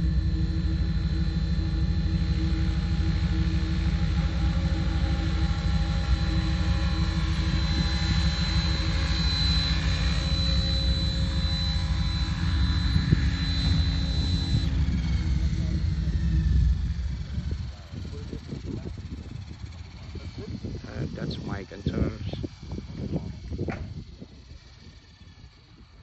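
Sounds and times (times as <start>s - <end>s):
low rumble: 0.0s - 25.5s
rc helicopter motor whine: 0.0s - 26.0s.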